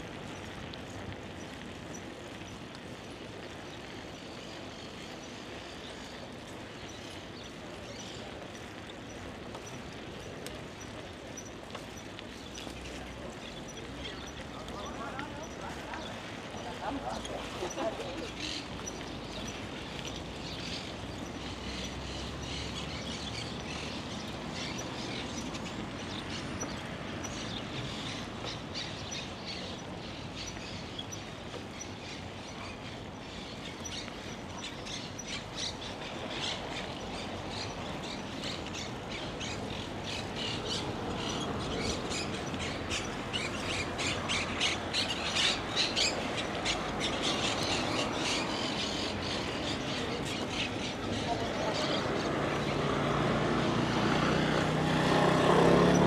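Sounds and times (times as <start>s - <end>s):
birds chirping and calling: 0.1s - 56.0s.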